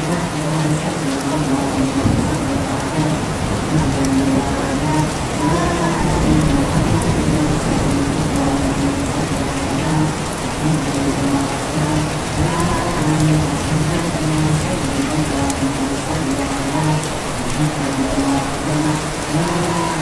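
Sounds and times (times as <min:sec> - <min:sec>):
person chanting in long notes: 0:00.0 - 0:20.0
steady rain falling: 0:00.0 - 0:20.0.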